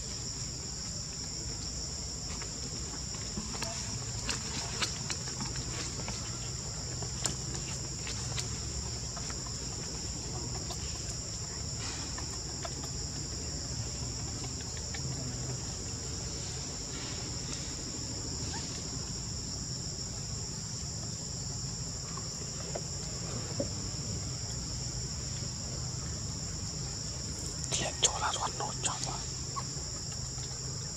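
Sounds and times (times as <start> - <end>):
insect chorus buzzing: 0.0 - 30.9.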